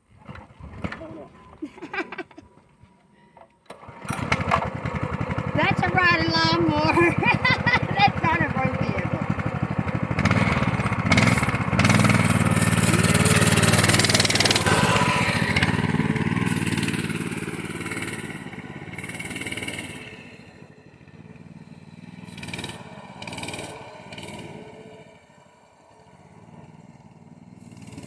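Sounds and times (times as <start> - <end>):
riding lawn mower engine running: 0.1 - 28.0.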